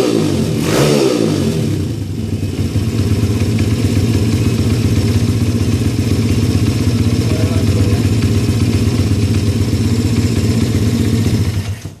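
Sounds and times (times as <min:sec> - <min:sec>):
small motorbike engine running: 0:01.8 - 0:12.0.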